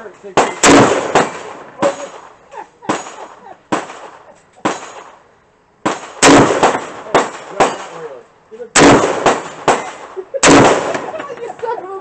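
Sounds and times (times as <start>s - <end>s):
gunshots: 0.0s - 11.4s
loud rifle shot: 0.4s - 8.1s, 8.7s - 11.3s.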